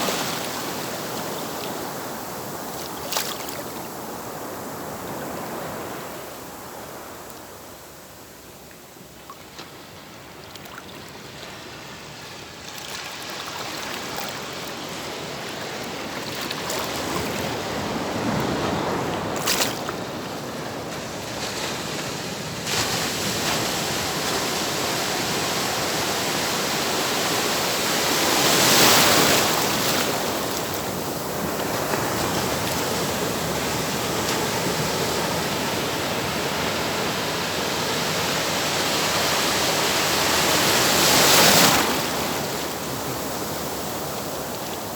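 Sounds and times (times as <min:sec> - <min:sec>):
waves breaking on shore: 0:00.0 - 0:44.9.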